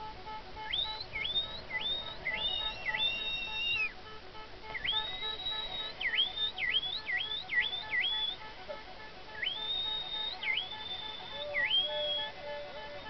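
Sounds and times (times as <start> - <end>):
dolphins whistling: 0.6 - 4.0, 4.6 - 8.4, 9.4 - 13.0.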